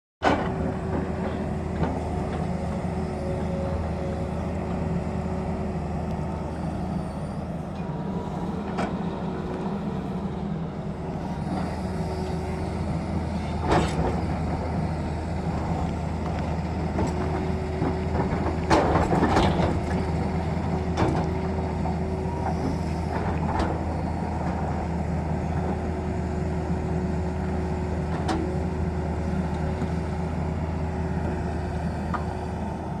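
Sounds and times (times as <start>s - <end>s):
excavator diesel engine running: 0.2s - 33.0s.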